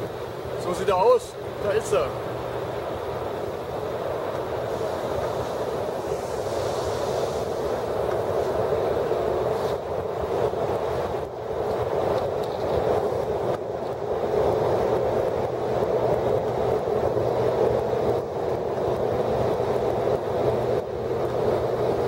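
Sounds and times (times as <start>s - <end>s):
ship engine rumble: 0.0s - 22.0s
wind buffeting microphone: 0.0s - 22.0s.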